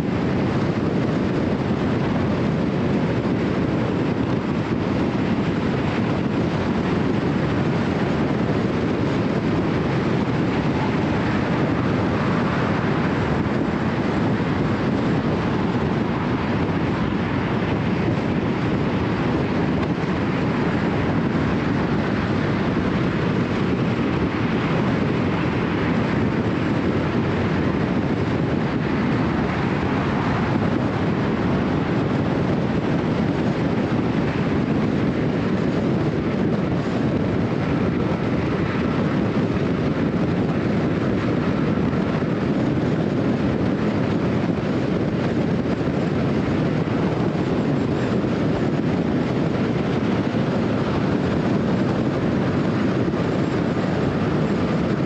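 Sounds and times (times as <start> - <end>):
wind rush: 0.0 - 55.0.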